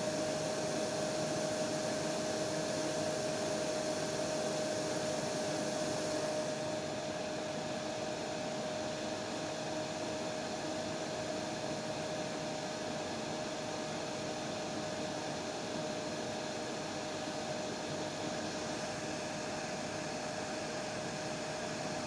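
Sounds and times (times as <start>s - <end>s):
hair dryer running: 0.0s - 9.4s, 11.2s - 22.0s.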